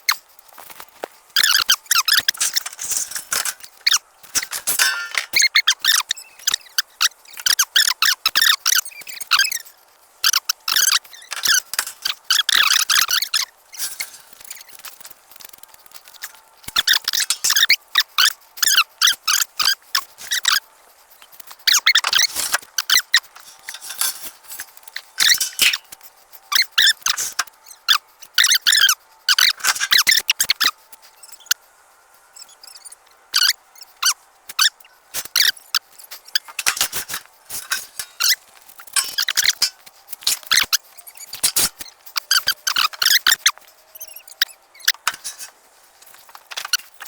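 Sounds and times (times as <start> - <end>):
high-pitched squeaks and chirps: 1.4 - 31.6, 32.3 - 47.0.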